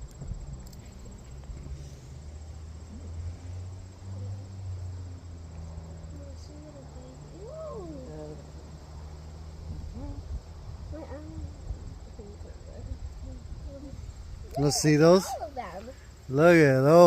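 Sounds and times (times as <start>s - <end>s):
crickets trilling: 0.0s - 17.0s
faint distant voices: 0.2s - 17.0s.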